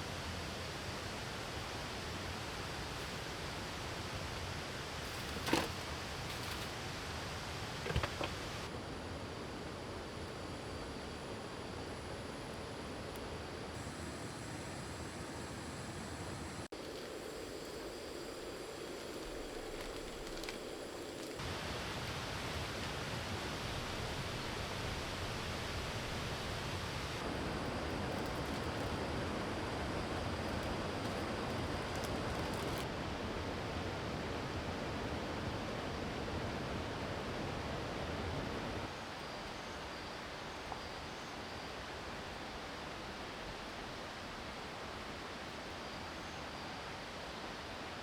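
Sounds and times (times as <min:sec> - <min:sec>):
steady rushing outdoor noise: 0:00.0 - 0:39.2.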